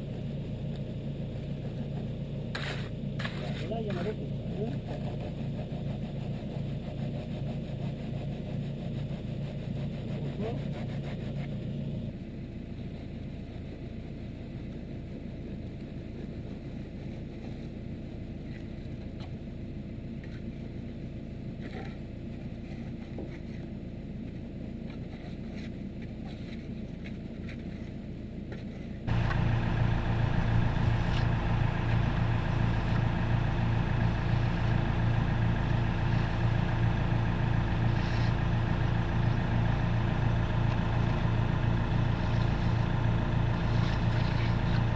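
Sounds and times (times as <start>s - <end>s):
low motor drone: 0.0s - 26.7s, 27.8s - 44.9s.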